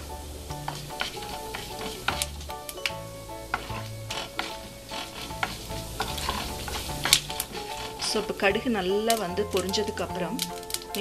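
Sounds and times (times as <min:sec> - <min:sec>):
mustard seeds popping: 0:00.0 - 0:11.0
seeds sizzling in hot oil: 0:00.0 - 0:11.0
wooden spatula stirring: 0:00.0 - 0:11.0.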